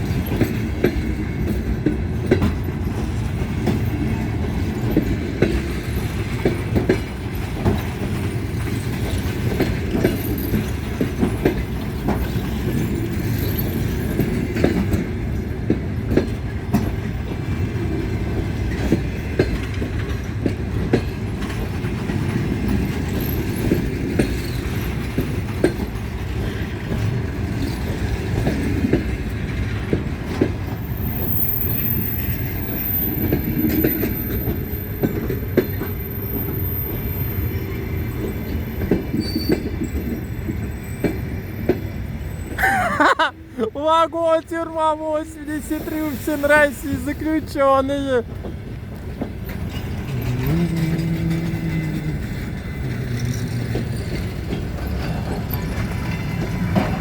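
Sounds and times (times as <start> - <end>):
train wheels clacking over rail joints: 0.0 - 42.8, 46.4 - 57.0
train rumble: 0.0 - 57.0.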